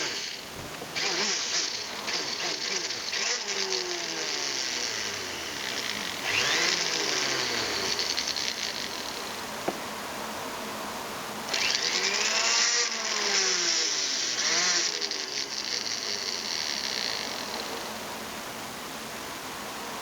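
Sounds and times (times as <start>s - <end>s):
power tool motor whining: 0.0s - 10.4s, 11.2s - 18.8s.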